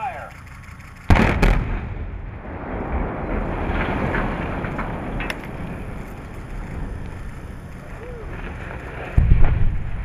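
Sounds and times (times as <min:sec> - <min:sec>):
sharp crack: 0:00.0 - 0:10.0
deep rumbling of collapse: 0:01.1 - 0:10.0.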